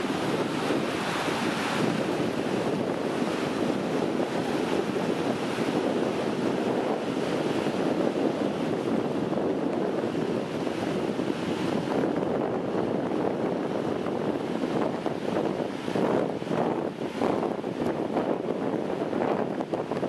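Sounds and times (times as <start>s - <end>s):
sea surf: 0.0s - 20.0s
wind on microphone: 0.0s - 20.0s.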